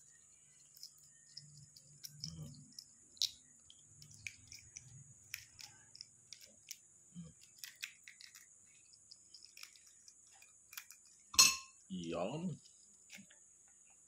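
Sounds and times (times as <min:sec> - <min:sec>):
eggshell clicks and crackles: 0:00.0 - 0:11.3.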